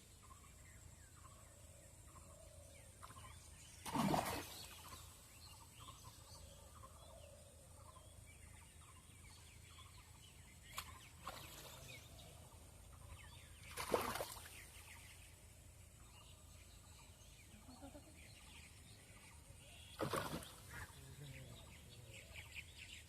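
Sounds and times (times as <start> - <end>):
bird calls and chirps: 0.0 - 23.0.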